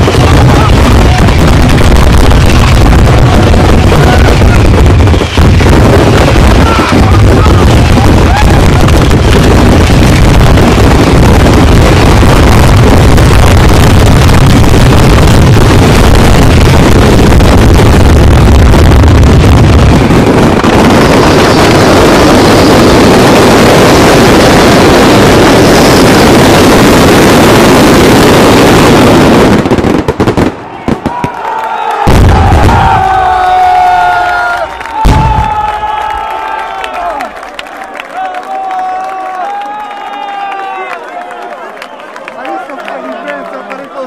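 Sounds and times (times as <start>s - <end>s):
fireworks rushing roar: 0.0s - 44.0s.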